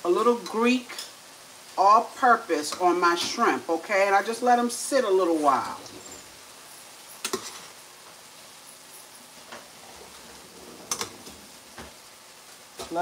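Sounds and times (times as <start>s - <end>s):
shrimp sizzling in a pan: 0.0s - 13.0s.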